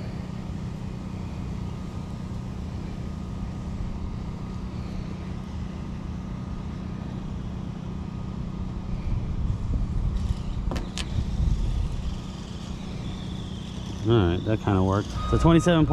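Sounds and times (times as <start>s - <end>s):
low hum over rumbling drone: 0.0s - 15.9s.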